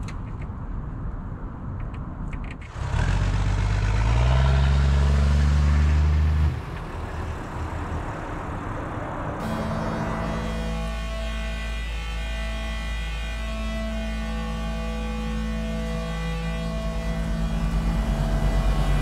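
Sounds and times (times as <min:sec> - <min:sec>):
vehicle engine running: 0:02.7 - 0:19.0.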